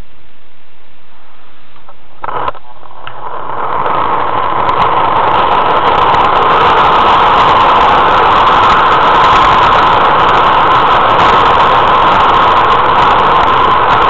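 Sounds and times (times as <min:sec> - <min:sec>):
model train motor and wheels whirring: 0:02.2 - 0:14.0.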